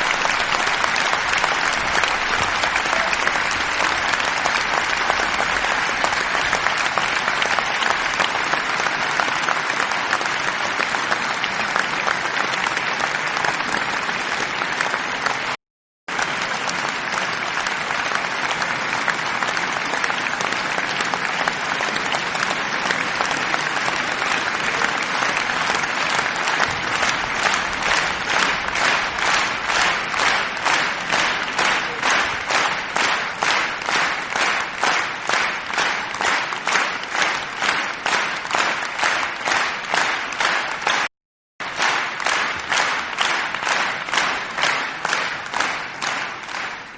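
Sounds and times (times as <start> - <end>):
audience applauding: 0.0 - 46.9
rhythmic unison clapping: 0.0 - 46.9.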